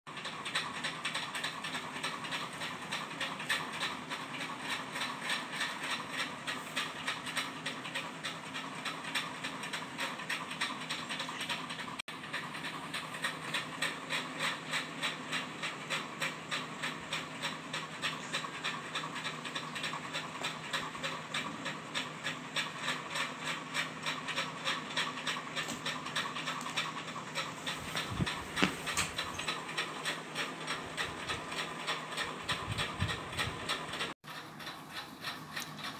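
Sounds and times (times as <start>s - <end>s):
puppy panting: 0.5s - 35.9s.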